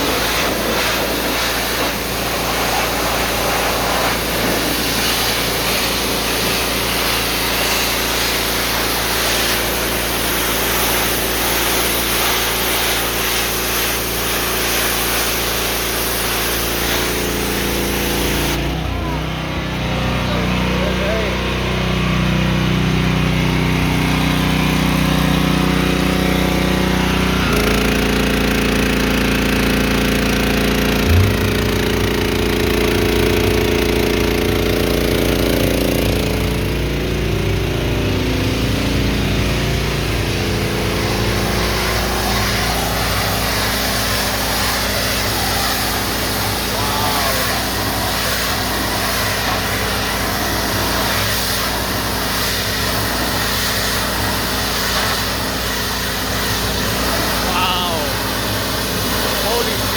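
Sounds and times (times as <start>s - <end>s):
pressure washer engine running: 0.0s - 59.9s.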